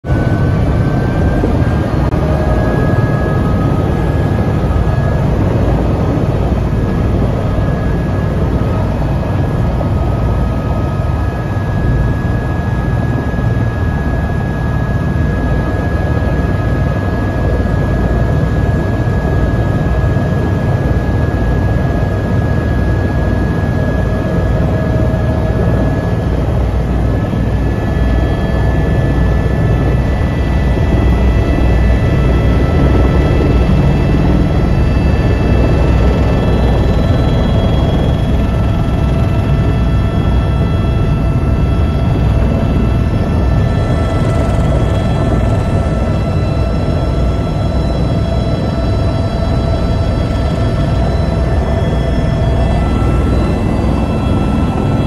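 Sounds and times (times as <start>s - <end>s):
helicopter low rumble: 0.0s - 55.0s
high turbine whine: 0.0s - 55.0s.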